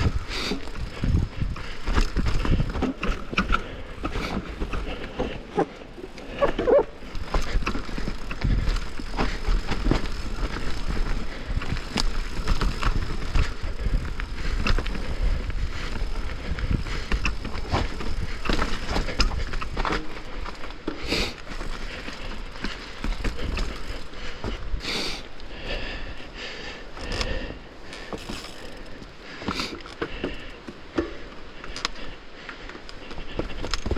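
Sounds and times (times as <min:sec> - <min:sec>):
tyres rumbling on dirt: 0:00.0 - 0:25.2, 0:28.0 - 0:30.6
bike clattering over bumps: 0:00.0 - 0:25.9, 0:27.0 - 0:33.9.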